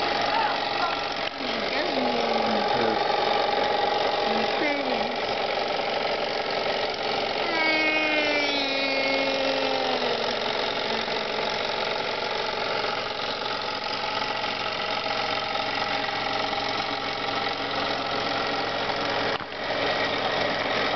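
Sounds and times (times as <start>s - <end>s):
toy steam engine hissing and whirring: 0.0s - 20.9s.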